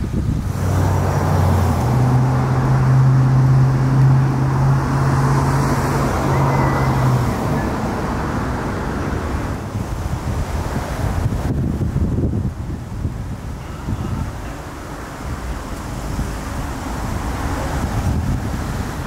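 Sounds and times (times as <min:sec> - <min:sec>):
broad rushing noise: 0:00.0 - 0:19.0
vehicle engine hum: 0:00.0 - 0:19.0.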